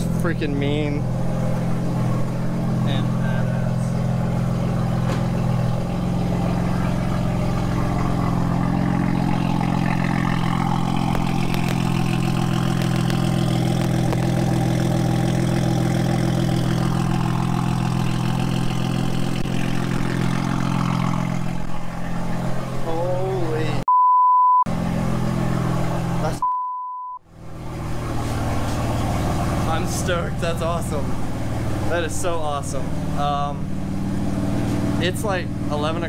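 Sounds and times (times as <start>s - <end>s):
car engine idling: 0.0s - 23.8s, 24.7s - 26.4s, 27.2s - 36.0s.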